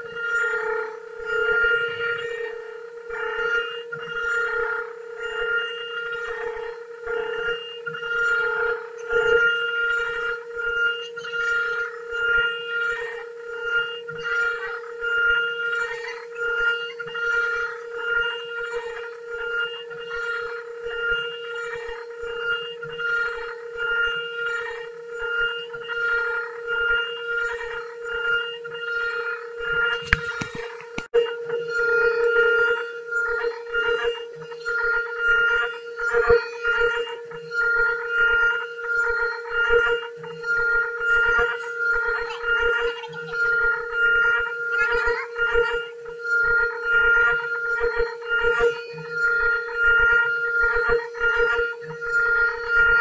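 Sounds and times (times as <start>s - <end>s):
router cutting wood: 0.0s - 53.0s
router spindle whining: 0.0s - 53.0s.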